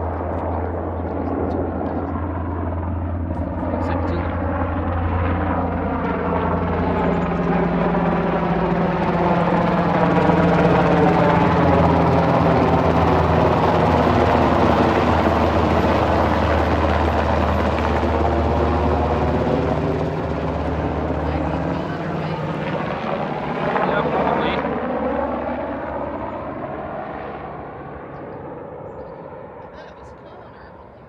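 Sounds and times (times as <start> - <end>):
helicopter flying low overhead: 0.0 - 31.0.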